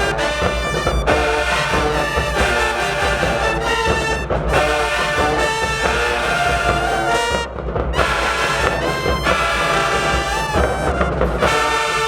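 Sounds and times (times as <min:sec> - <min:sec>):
bass drums: 0:00.0 - 0:12.0
brass band playing chords: 0:00.0 - 0:12.0.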